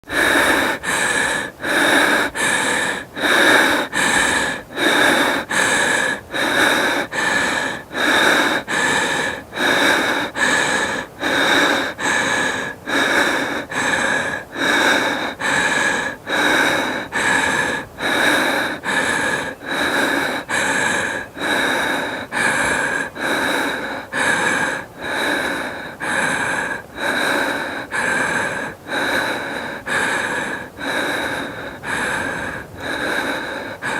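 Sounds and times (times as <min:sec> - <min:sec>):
woman breathing hard: 0:00.0 - 0:33.9.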